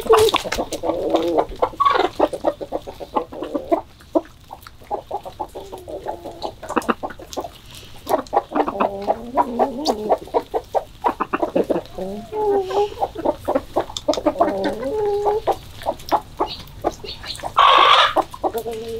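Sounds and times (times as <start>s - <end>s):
hens clucking: 0.0s - 18.9s.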